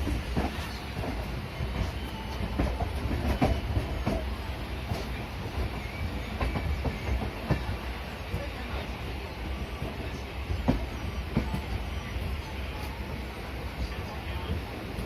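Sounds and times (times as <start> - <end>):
train coach rumbling: 0.0 - 15.0.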